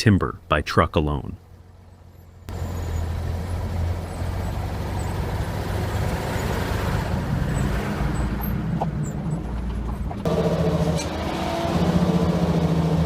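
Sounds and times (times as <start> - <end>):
truck engine drone: 0.0 - 13.0
tyre and road noise: 1.3 - 13.0.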